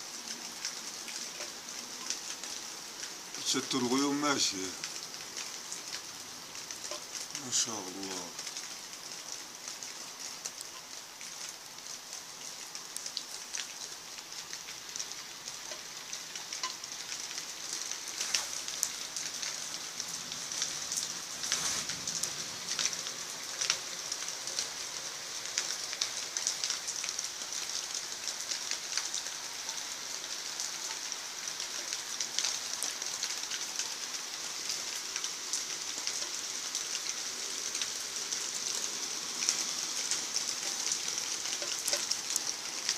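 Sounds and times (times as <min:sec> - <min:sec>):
heavy rain pattering: 0:00.0 - 0:42.9.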